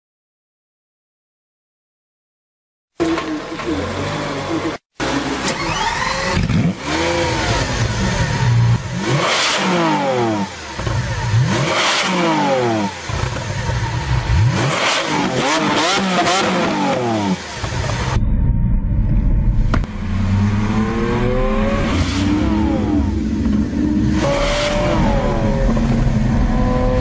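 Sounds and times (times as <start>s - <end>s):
car engine revving: 3.0s - 27.0s.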